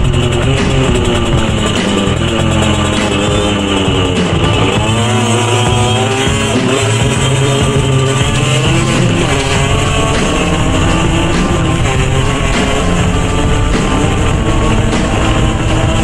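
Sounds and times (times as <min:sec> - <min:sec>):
music: 0:00.0 - 0:16.0
two-stroke motorcycle engine revving: 0:00.0 - 0:16.0.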